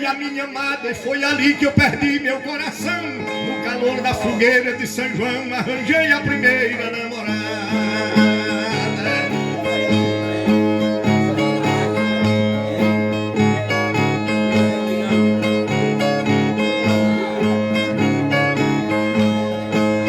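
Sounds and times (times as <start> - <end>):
plucked steel-strung guitar: 0.8 - 20.0.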